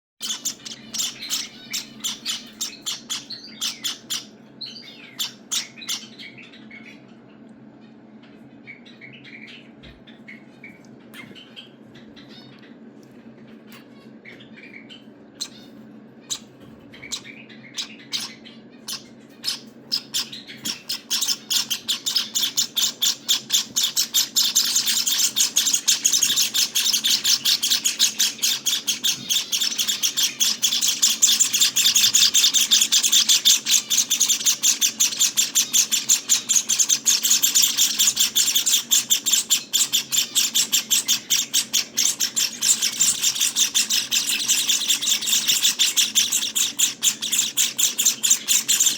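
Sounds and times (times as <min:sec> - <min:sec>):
nestlings chirping: 0:00.2 - 0:07.5, 0:08.3 - 0:12.9, 0:13.6 - 0:48.9.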